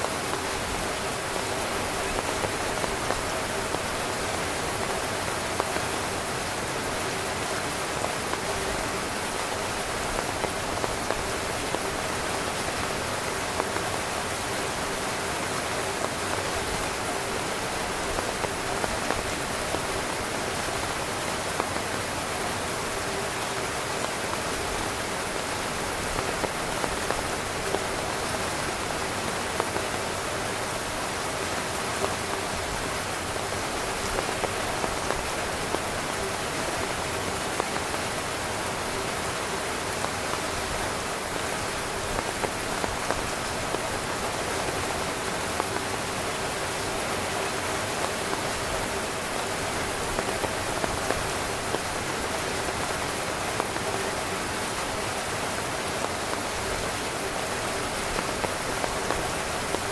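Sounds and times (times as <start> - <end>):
heavy rain on a tent: 0.0 - 59.9
raindrops hitting tent fabric: 0.0 - 59.9.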